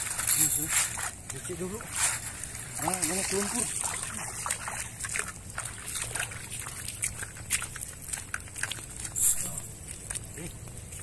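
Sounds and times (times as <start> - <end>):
footsteps splashing through mud: 0.0 - 11.0.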